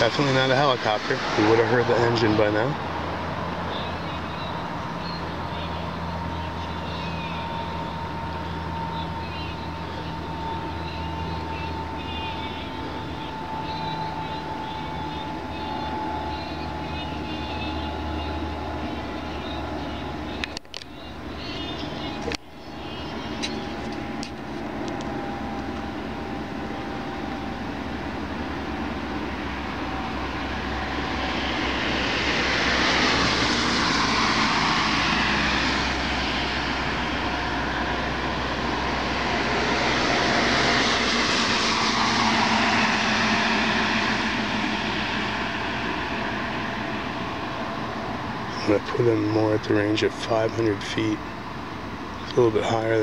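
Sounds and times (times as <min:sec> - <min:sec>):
low-flying aircraft engine drone: 0:00.0 - 0:53.0.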